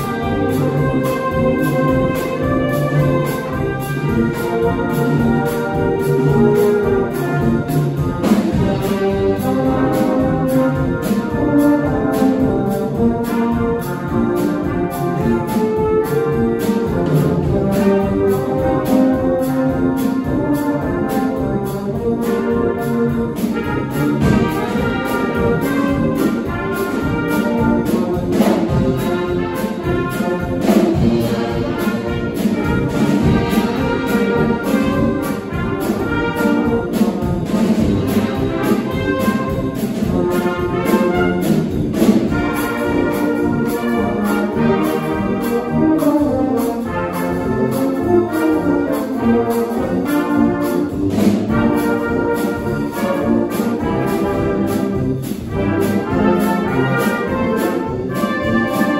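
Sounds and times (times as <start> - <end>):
brass band playing: 0.0 - 58.9
drums striking: 0.0 - 58.9.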